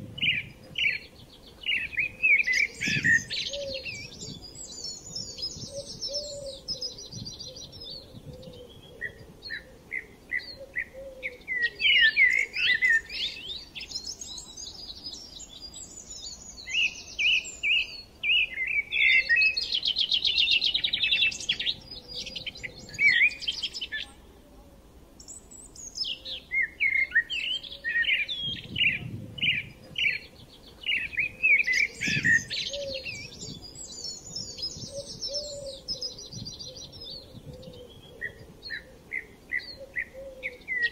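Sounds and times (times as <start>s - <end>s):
small birds chirping and trilling: 0.0s - 24.4s, 25.2s - 40.9s.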